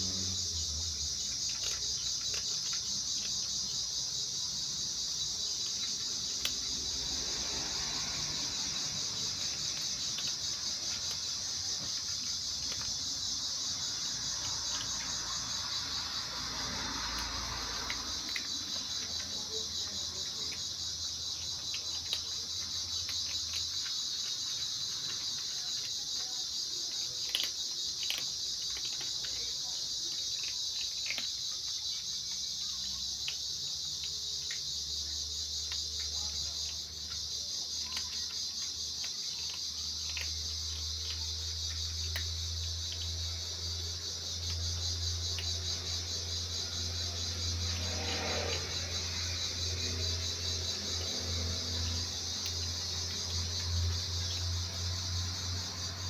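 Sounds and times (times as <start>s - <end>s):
insects chirping: 0.0s - 56.0s
small clicks and ticks: 0.0s - 56.0s.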